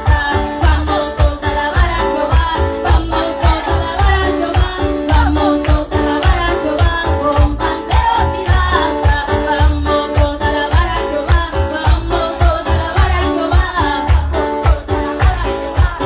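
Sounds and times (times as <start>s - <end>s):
electronic keyboard chords: 0.0s - 16.0s
fast bass beat: 0.0s - 16.0s
woman singing into microphone: 0.0s - 16.0s.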